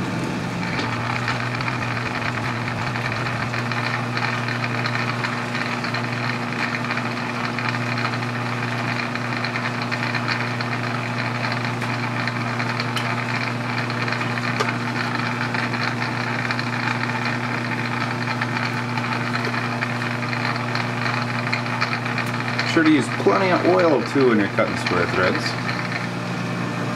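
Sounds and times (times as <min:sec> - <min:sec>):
metal lathe cutting: 0:00.0 - 0:26.9.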